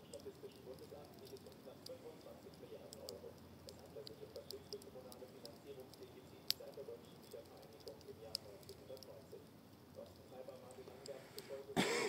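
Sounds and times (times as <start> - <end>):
campfire crackling and popping: 0.0 - 11.8.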